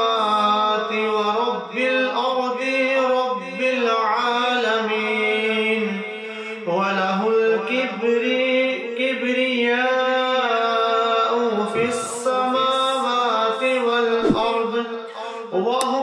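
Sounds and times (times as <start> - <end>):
man chanting melodic recitation: 0.0 - 16.0.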